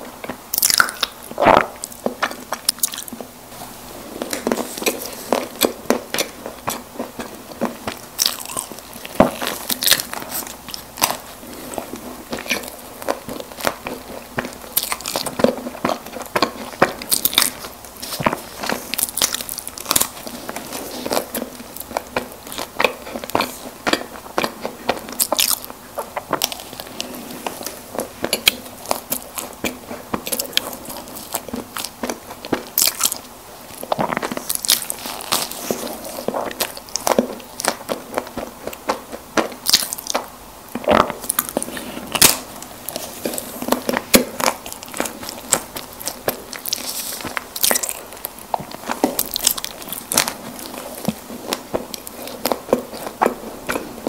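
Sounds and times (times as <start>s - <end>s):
biting and chewing snack cakes: 0.0s - 54.0s.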